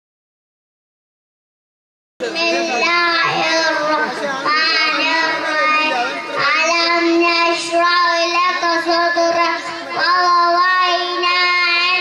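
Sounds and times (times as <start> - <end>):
boy chanting melodically: 2.2 - 12.0.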